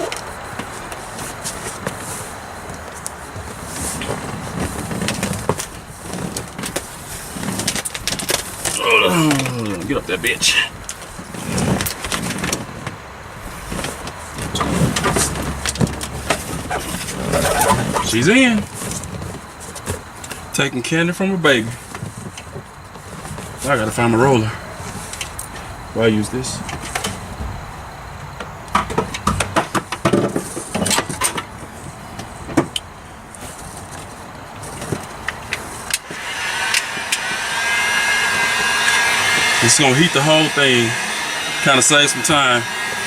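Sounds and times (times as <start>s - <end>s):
sound deadener sheet rustling: 0.0s - 27.9s, 29.0s - 36.2s.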